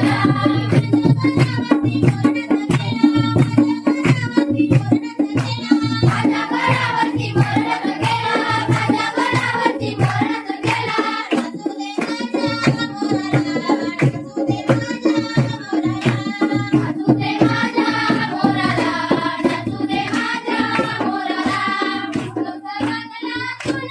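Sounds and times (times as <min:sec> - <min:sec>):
clapping: 0:00.0 - 0:04.8, 0:05.4 - 0:14.2, 0:16.0 - 0:16.9, 0:18.7 - 0:23.9
hand drum beat: 0:00.0 - 0:23.9
young voices singing folk song: 0:00.0 - 0:23.9.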